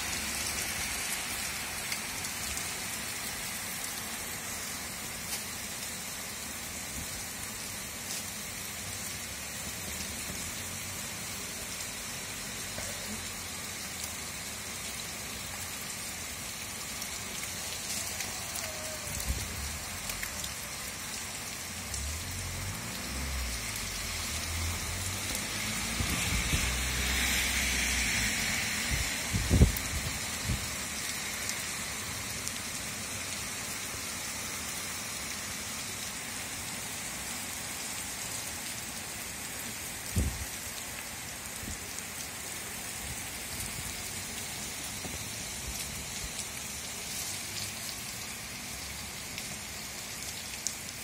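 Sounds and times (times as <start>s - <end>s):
heavy rain on pavement: 0.0s - 51.0s.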